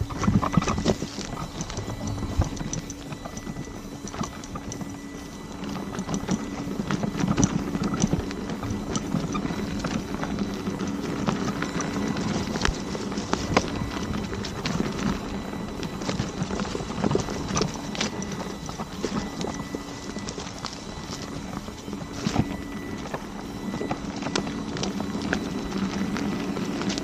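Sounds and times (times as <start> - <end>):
tyres rumbling over dirt: 0.0 - 27.0.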